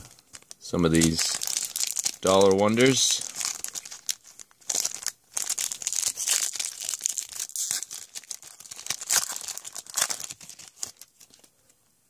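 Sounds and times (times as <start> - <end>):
foil wrapper crinkling and tearing: 0.0 - 11.5.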